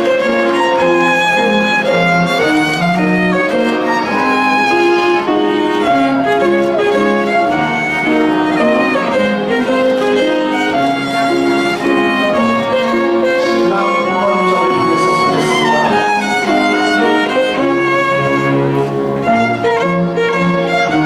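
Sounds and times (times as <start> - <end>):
lower accompaniment: 0.0 - 21.0
violin melody: 0.0 - 21.0.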